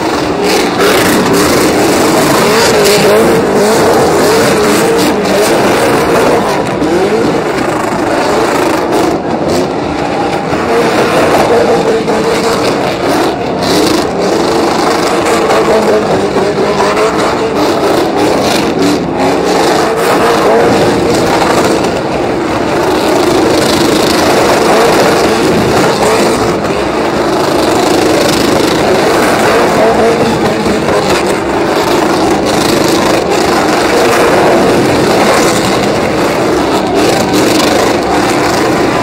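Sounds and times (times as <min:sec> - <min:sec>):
truck engines revving high: 0:00.0 - 0:39.0
tyres spinning on pavement: 0:00.0 - 0:39.0.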